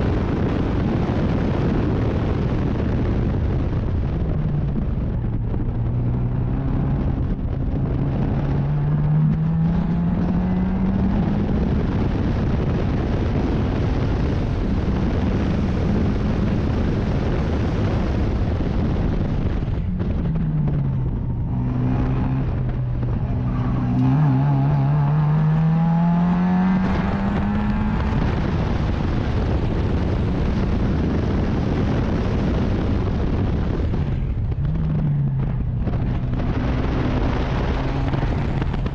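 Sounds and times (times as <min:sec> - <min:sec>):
wind and road noise: 0:00.0 - 0:38.9
racing car engine accelerating: 0:02.8 - 0:38.9.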